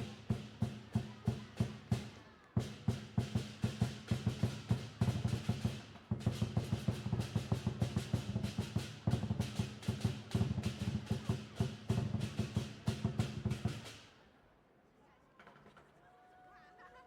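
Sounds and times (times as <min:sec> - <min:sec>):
sharp drum strokes: 0:00.0 - 0:14.0.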